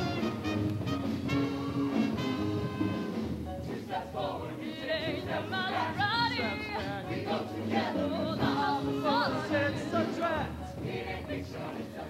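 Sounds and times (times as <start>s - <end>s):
choir singing with accompaniment: 1.0s - 12.0s.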